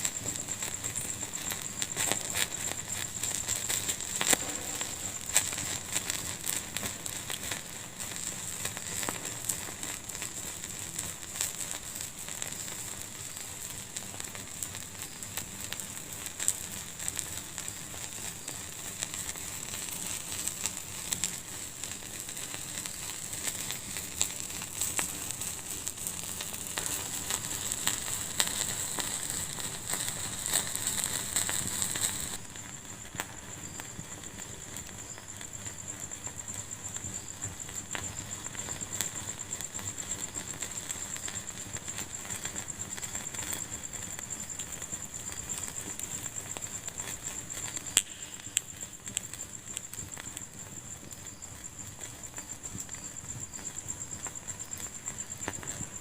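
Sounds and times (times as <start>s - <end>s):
soft fire hiss: 0.0s - 56.0s
wood fire crackling and popping: 0.0s - 56.0s.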